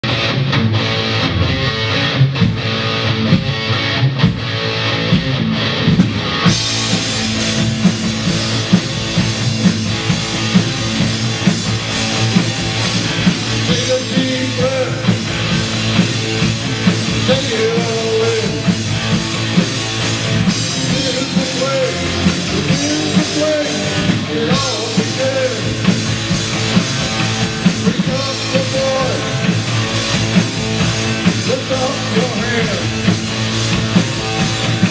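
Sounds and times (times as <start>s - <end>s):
electric guitar: 0.0s - 34.9s
rock band playing: 0.0s - 34.9s.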